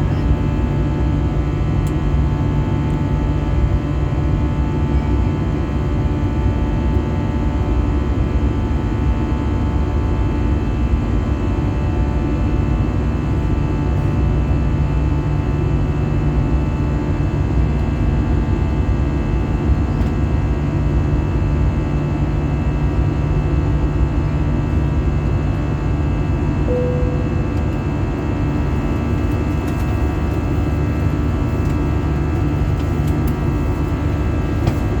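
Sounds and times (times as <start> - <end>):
jet engine drone in cabin: 0.0 - 35.0.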